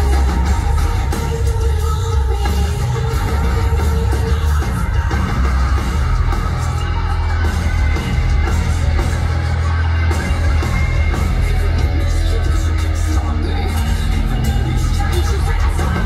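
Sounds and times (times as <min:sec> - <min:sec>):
live heavy metal band: 0:00.0 - 0:16.0.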